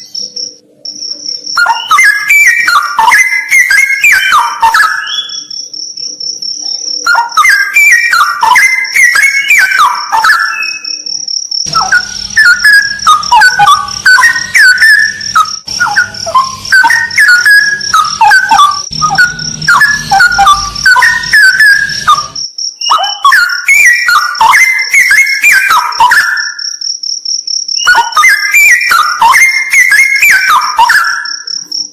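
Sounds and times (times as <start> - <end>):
bird singing whistled notes: 0.0 - 26.8, 27.7 - 31.9
high insect trill: 0.0 - 31.9.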